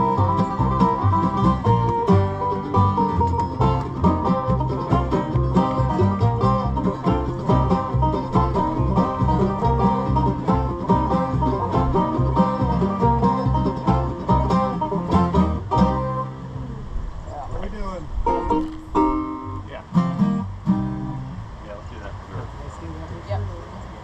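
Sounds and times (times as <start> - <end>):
banjo picking: 0.0 - 16.7, 18.1 - 21.5
bass line: 0.0 - 21.6
guitar: 0.0 - 23.5.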